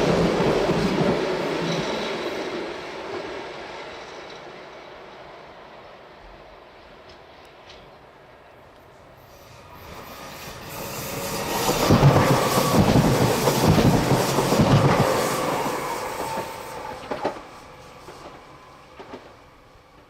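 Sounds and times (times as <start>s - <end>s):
train wheels clattering on rails: 0.0s - 4.9s, 8.7s - 20.0s.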